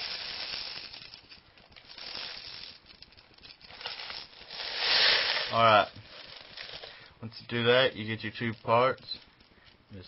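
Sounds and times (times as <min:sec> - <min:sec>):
plastic pellets rattling into plastic shell: 0:00.0 - 0:09.6.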